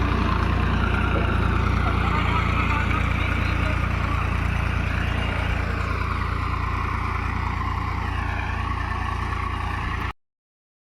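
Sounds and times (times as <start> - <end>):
tractor engine running: 0.0 - 10.2.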